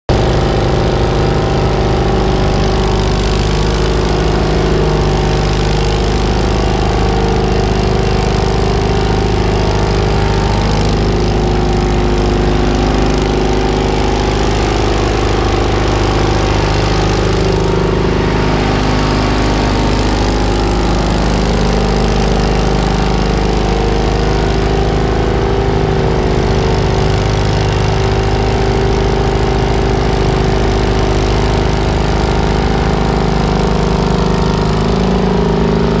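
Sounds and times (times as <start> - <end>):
paver engine running: 0.0 - 36.0.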